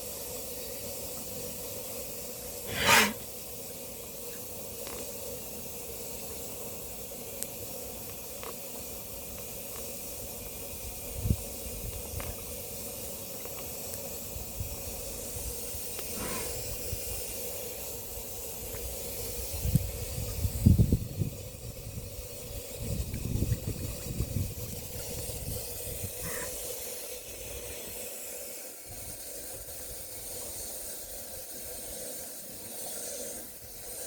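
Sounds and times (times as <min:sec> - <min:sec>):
outdoor ambience hiss: 0:00.0 - 0:34.0.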